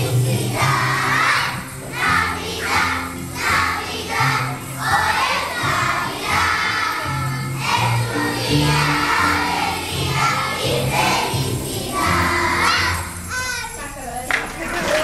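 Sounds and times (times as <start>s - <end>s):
children singing together: 0.0s - 13.5s
instrumental accompaniment with bass: 0.0s - 13.5s.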